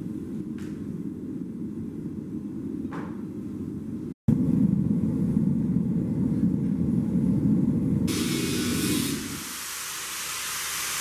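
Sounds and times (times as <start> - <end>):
gas forge burner rumbling: 0.0 - 11.0.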